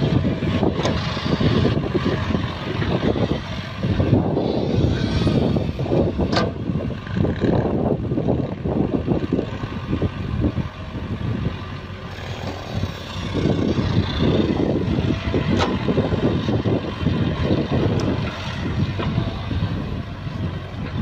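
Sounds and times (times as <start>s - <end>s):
excavator diesel engine working: 0.0s - 21.0s.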